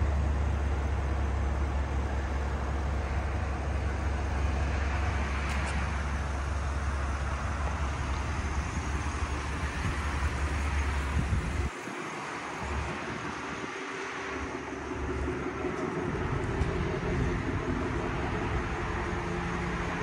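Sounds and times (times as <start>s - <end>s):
engine idling with low rumble: 0.0s - 20.0s.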